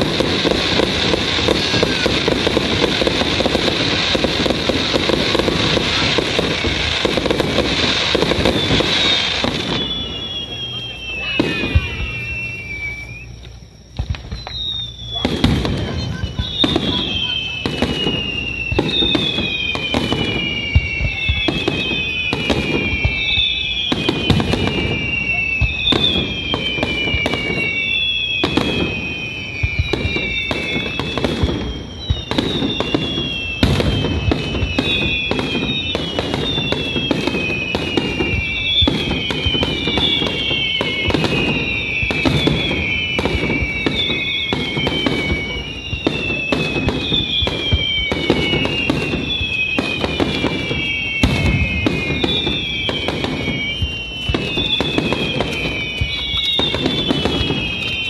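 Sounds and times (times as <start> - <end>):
fireworks bursting with booms: 0.0 - 58.0
whistling fireworks: 0.0 - 58.0.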